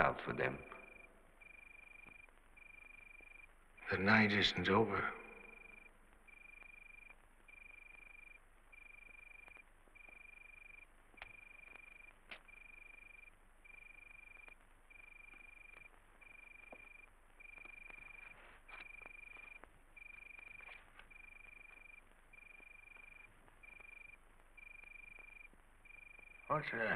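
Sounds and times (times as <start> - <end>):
cricket trilling: 0.7 - 4.4, 5.3 - 26.9.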